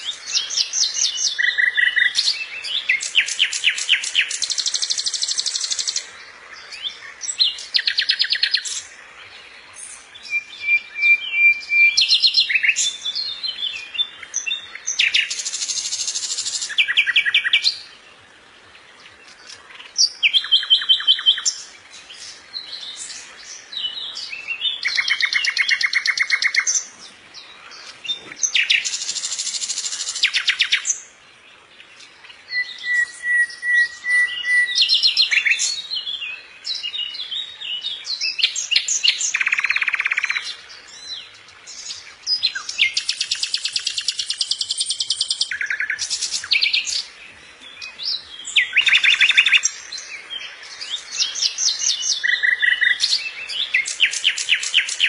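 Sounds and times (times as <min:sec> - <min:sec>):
songbird trilling song: 0:00.0 - 0:55.0.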